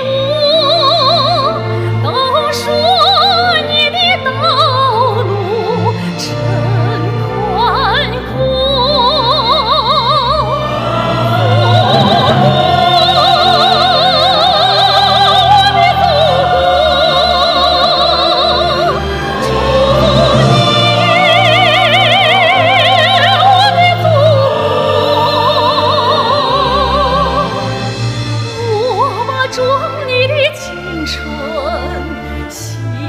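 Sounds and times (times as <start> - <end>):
soprano singing operatically: 0.0 - 27.9, 28.5 - 33.0
choir singing: 0.0 - 33.0
symphony orchestra: 0.0 - 33.0.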